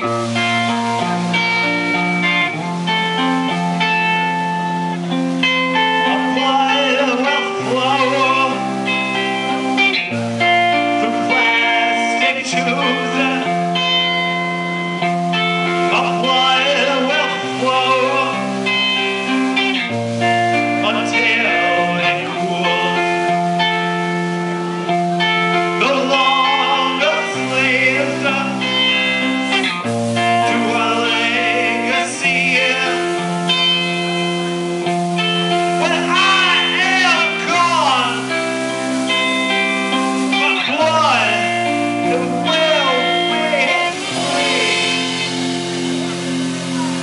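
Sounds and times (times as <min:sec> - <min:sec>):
bass line: 0:00.0 - 0:47.0
electric guitar with bent notes: 0:00.0 - 0:47.0
rock band playing live: 0:00.0 - 0:47.0.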